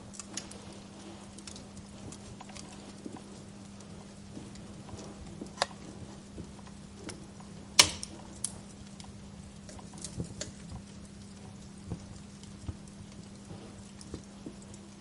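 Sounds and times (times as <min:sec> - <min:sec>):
faint low hum: 0:00.0 - 0:15.0
wood fire crackling and popping: 0:00.0 - 0:15.0.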